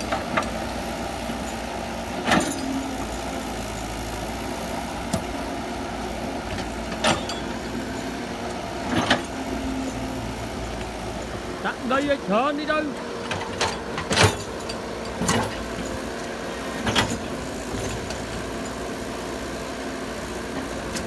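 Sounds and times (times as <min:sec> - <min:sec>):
excavator engine running: 0:00.0 - 0:21.0.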